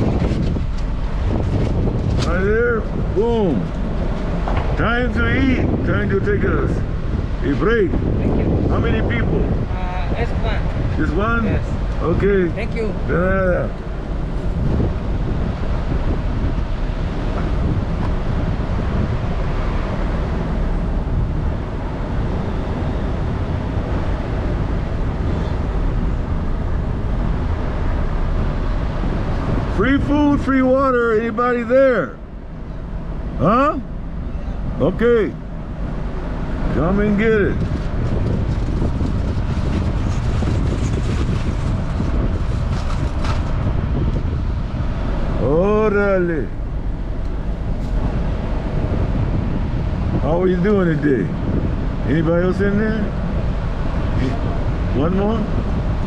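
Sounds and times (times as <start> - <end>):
vehicle running: 0.0 - 56.0
wind buffeting microphone: 0.0 - 56.0.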